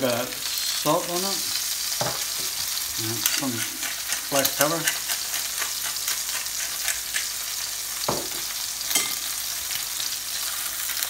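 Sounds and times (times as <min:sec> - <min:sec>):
pork chops frying in oil: 0:00.0 - 0:11.0.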